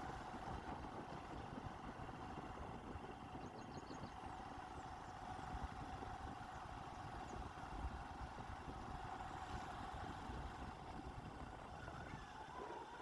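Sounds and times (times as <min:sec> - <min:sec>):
low motor-like hum: 0:00.0 - 0:13.0.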